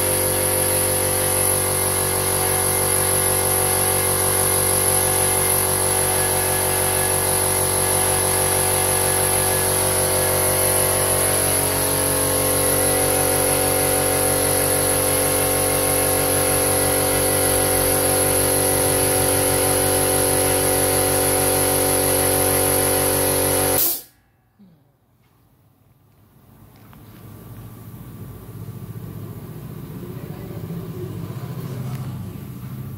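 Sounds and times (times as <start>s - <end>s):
air compressor running: 0.0s - 24.2s, 26.3s - 32.9s.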